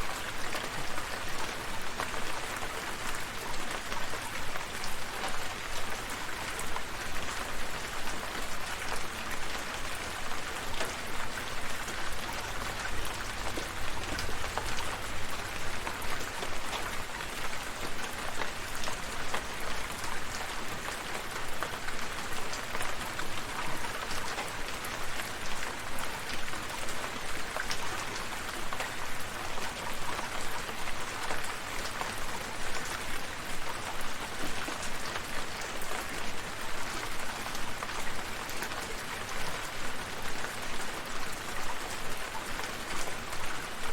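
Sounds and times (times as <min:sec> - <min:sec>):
raindrops striking close by: 0:00.0 - 0:43.9
steady rain falling: 0:00.0 - 0:43.9.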